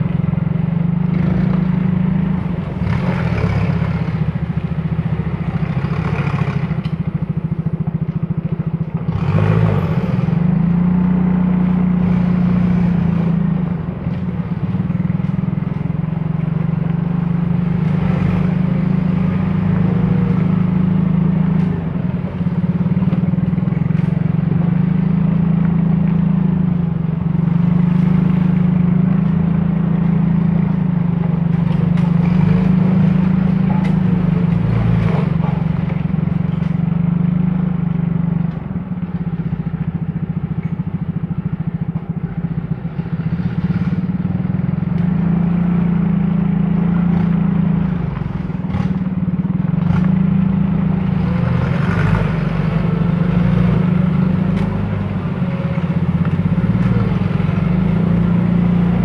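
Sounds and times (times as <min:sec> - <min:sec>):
vehicle engine running under load: 0:00.0 - 0:59.0.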